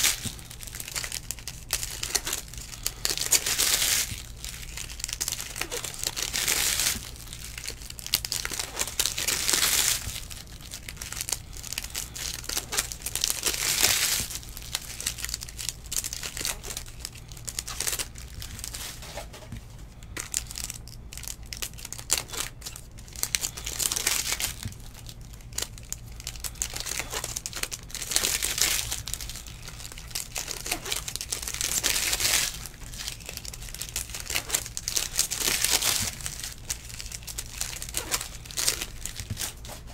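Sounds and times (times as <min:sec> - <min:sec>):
cards rustling: 0:00.0 - 0:39.9
plastic wrappers crinkling and tearing: 0:00.0 - 0:39.9.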